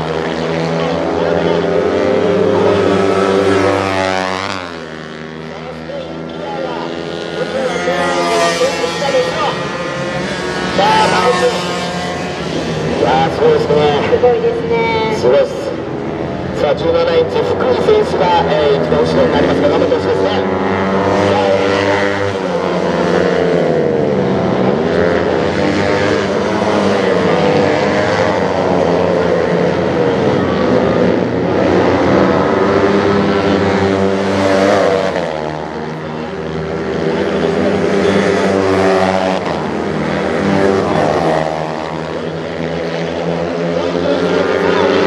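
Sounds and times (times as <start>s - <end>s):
two-stroke minibike engines revving: 0.0s - 45.0s.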